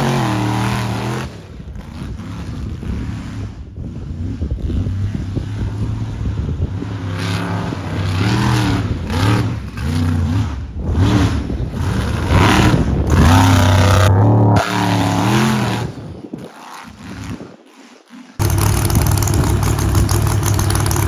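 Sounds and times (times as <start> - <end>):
truck engine revving: 0.0 - 16.4, 18.4 - 21.0.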